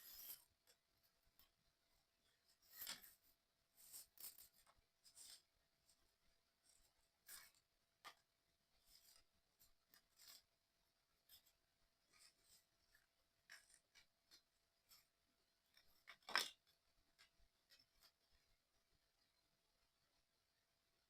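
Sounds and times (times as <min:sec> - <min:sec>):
small clicks and rustles of parts: 0:00.0 - 0:18.8.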